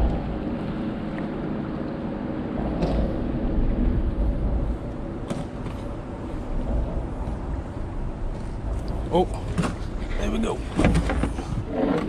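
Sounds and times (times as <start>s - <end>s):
moving water: 0.0s - 12.0s
wind rumble on microphone: 0.0s - 12.0s.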